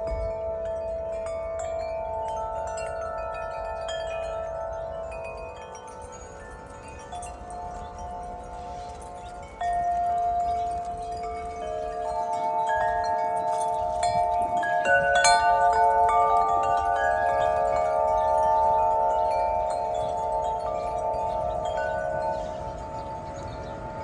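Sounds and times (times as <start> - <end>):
wind chimes ringing: 0.0 - 24.0.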